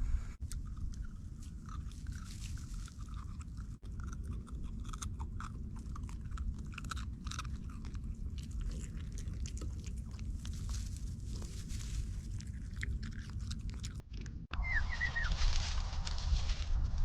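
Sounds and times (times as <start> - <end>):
steady low rumble: 0.0 - 17.0
dog crunching treats: 0.4 - 14.4.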